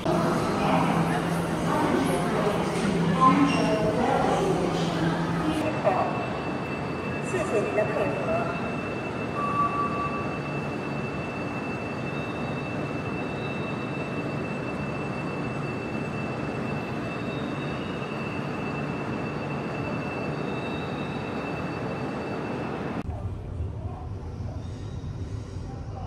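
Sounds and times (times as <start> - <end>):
high-speed train running: 0.0 - 26.0
thin high whine: 0.0 - 26.0.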